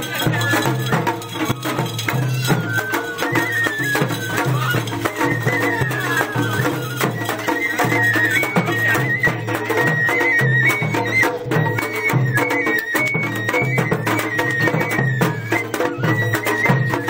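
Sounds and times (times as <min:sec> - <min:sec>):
drumming and percussion: 0:00.0 - 0:17.0
high flute-like melody: 0:00.0 - 0:17.0.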